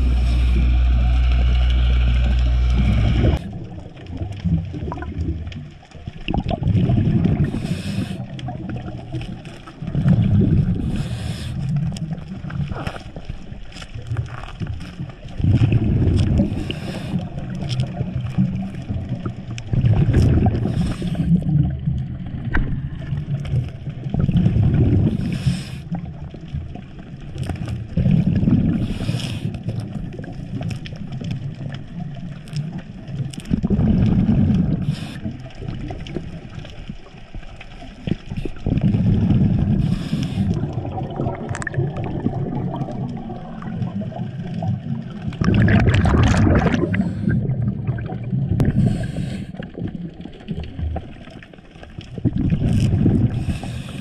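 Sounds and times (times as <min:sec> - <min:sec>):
exhaled bubbles underwater: 0:00.0 - 0:54.0
water wash: 0:00.0 - 0:54.0.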